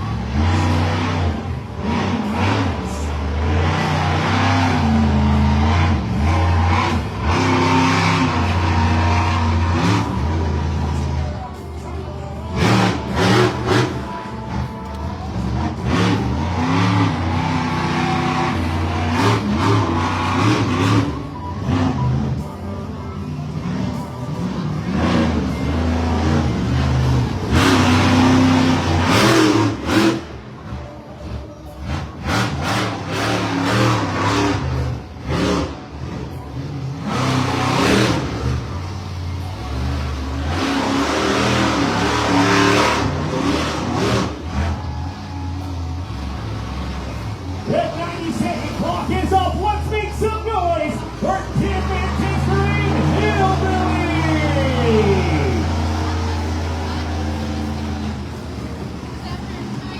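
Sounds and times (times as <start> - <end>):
monster truck engine revving: 0.0 - 59.9.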